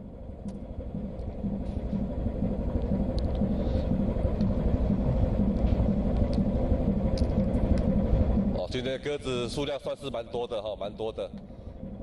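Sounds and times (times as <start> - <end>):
ship engine rumble: 0.0 - 12.0.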